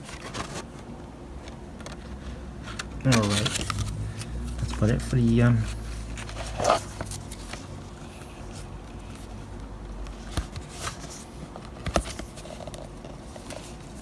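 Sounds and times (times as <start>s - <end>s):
paper and card rustling: 0.0s - 14.0s.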